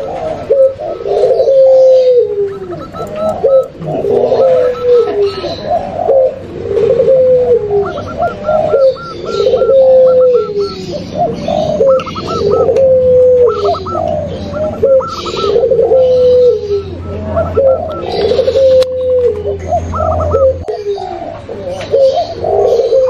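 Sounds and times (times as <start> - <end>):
doves cooing: 0.0 - 23.0.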